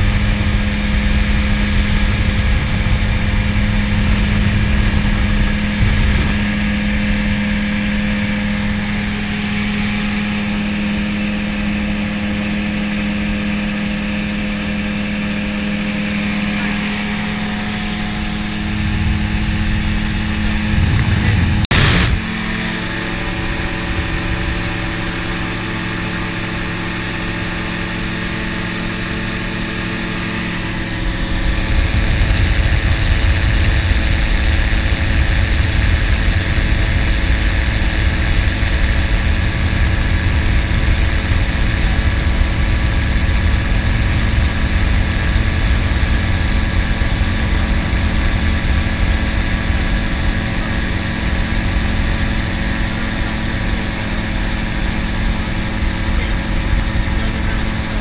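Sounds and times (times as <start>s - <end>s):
gyroplane engine and propeller drone: 0.0s - 58.0s.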